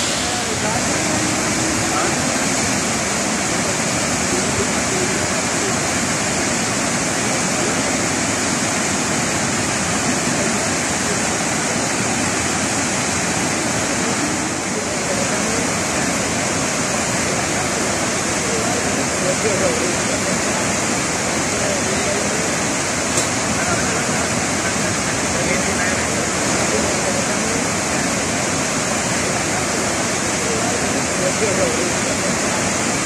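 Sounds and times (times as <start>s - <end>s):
water rushing down dam spillway: 0.0s - 33.0s.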